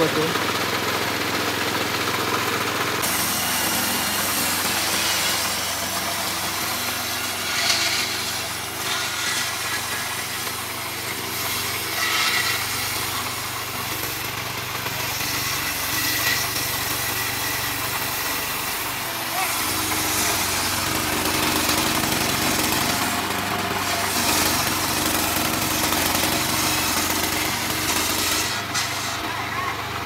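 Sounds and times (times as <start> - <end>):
circular saw cutting wood: 0.0 - 30.0
small engine running: 0.0 - 30.0.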